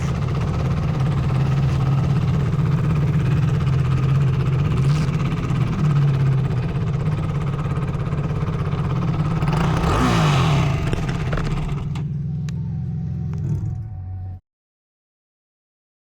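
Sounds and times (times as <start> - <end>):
quad bike engine running: 0.0 - 14.2.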